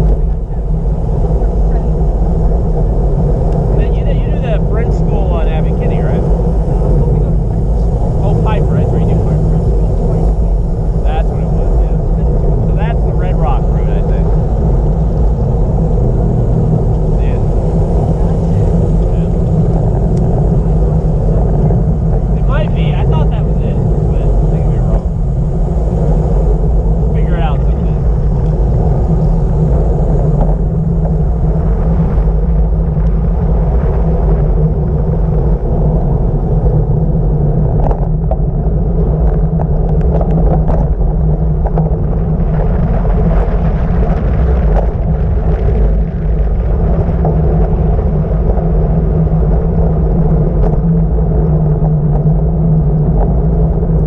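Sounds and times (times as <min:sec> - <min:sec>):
tyre noise on road: 0:00.0 - 0:54.0
wind buffeting microphone: 0:00.0 - 0:54.0.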